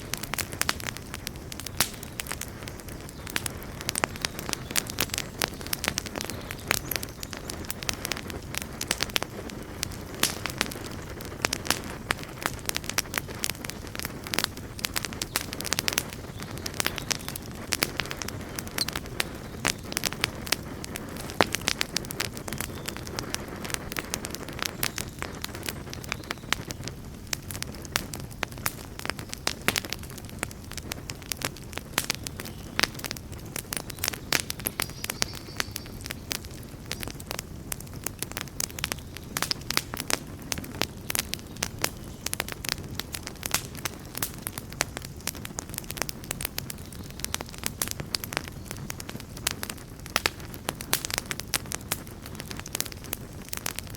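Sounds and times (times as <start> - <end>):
campfire crackling and popping: 0.0 - 53.9
low roar of flames: 0.0 - 53.9.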